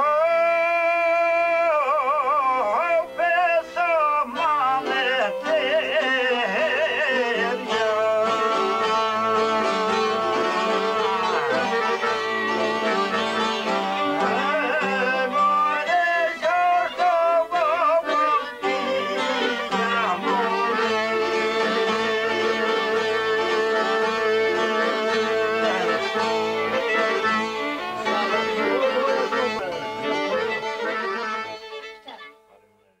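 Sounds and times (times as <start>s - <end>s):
folk ensemble playing: 0.0s - 32.9s
violin melody: 1.5s - 33.0s.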